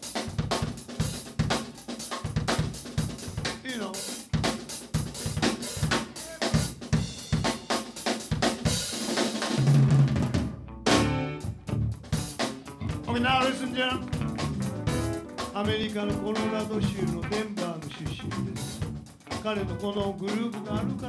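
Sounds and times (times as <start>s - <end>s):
drum kit solo: 0.0s - 21.0s.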